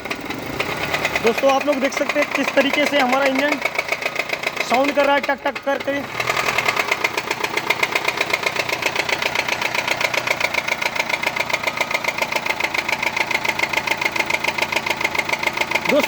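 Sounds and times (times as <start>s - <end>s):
car engine idling with ticking knock: 0.0s - 16.0s.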